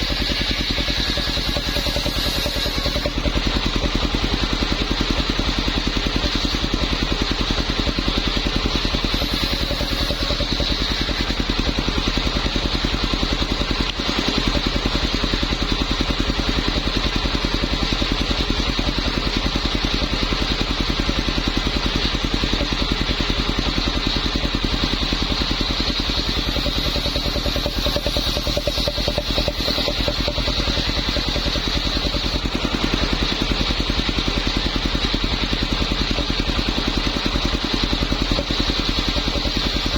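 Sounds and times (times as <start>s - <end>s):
engine-driven circular saw running: 0.0s - 39.9s.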